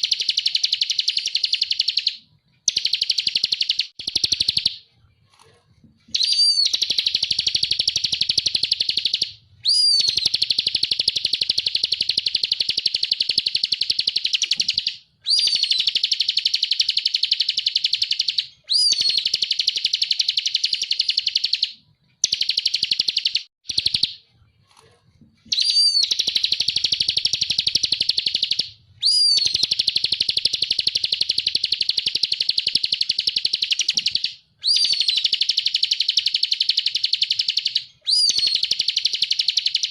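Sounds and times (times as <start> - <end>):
bird singing buzzy trills: 6.1 - 24.2, 25.5 - 39.9.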